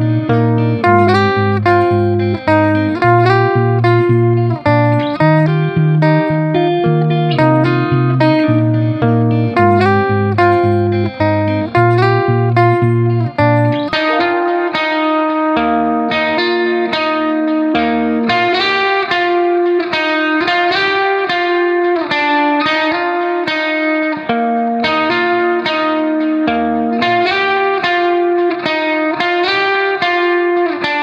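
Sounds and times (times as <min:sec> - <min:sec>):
guitar plucking repeating pattern: 0:00.0 - 0:31.0.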